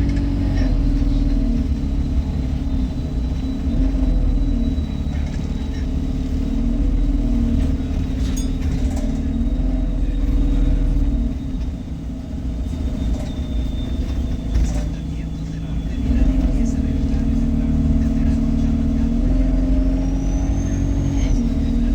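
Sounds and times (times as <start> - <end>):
bus engine rumble: 0.0 - 21.9.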